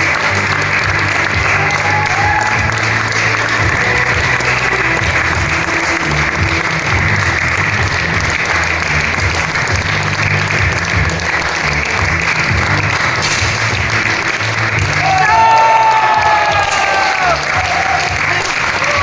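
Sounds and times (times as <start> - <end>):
crowd clapping: 0.0 - 19.0
loud background music: 0.0 - 19.0.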